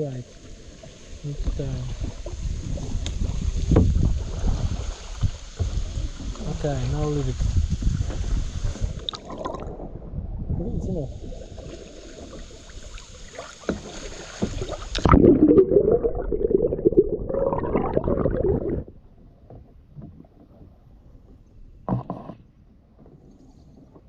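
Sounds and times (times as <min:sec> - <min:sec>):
underwater river gurgling: 0:00.0 - 0:22.5.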